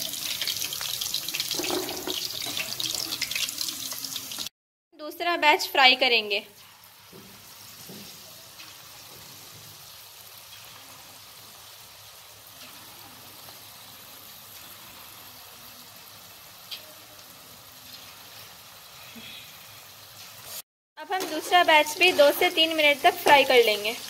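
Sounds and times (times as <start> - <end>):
chicken sizzling in hot oil: 0.0 - 4.5, 6.2 - 24.0.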